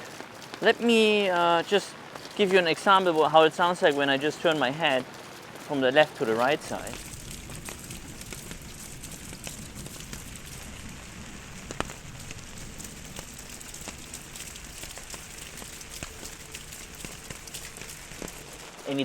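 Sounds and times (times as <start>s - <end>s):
raindrops ticking on surfaces: 0.0s - 19.0s
steady rain: 0.0s - 19.0s.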